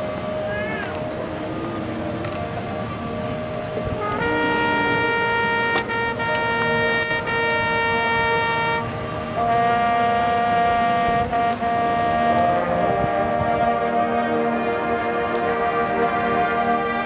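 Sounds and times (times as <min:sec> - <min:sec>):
marching band chords: 0:00.0 - 0:17.0.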